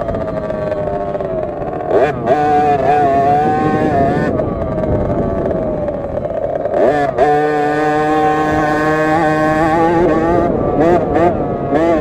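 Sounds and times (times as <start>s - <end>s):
minibike engine revving: 0.0s - 12.0s.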